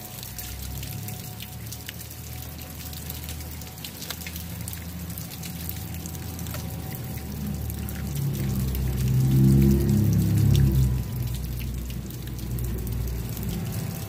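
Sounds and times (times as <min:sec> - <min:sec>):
raindrops dripping close: 0:00.0 - 0:14.0
steady rain falling: 0:00.0 - 0:14.0.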